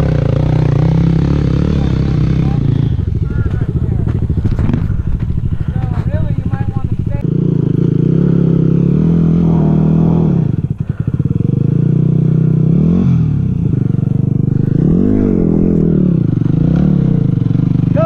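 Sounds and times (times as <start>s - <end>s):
engine throttle blips: 0.0s - 18.0s
motorcycle engine idling: 0.0s - 18.0s.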